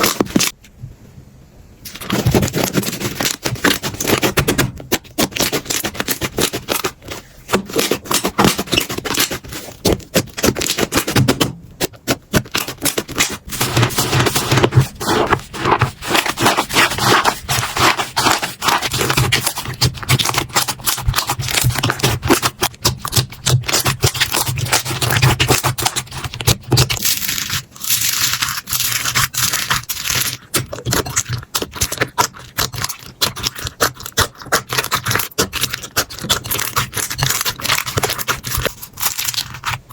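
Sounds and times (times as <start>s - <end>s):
slime squished by hand: 1.9s - 39.9s.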